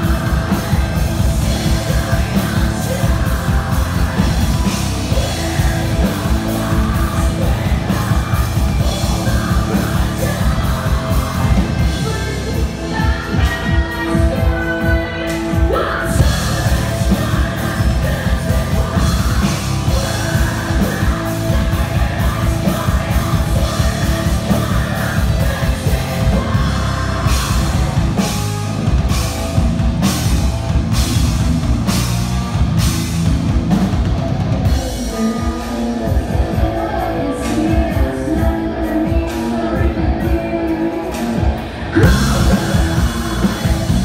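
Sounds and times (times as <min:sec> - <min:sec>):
person singing: 0:00.0 - 0:28.6, 0:34.6 - 0:44.0
heavy metal band playing live: 0:00.0 - 0:44.0.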